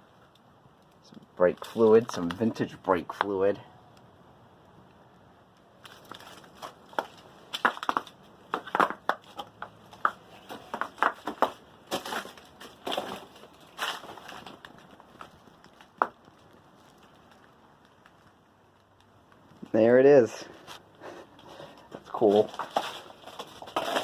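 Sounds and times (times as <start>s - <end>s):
crunching and crackling: 0.0s - 24.0s.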